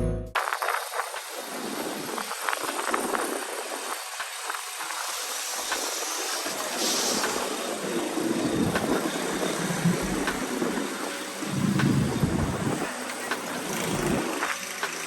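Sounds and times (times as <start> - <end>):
wind on microphone: 0.4 - 13.0
bicycle rattles and clicks: 0.4 - 15.0
bicycle tyre and chain noise: 0.4 - 15.0.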